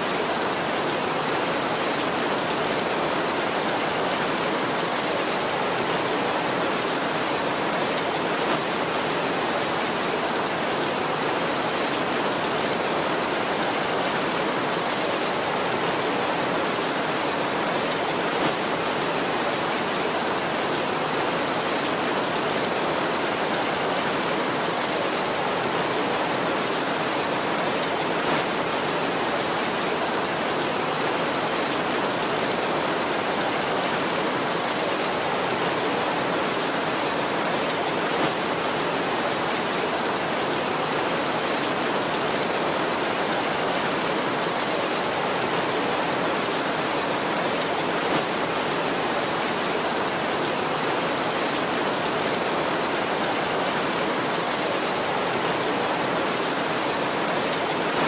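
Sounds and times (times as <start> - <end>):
heavy steady rain: 0.0 - 58.0.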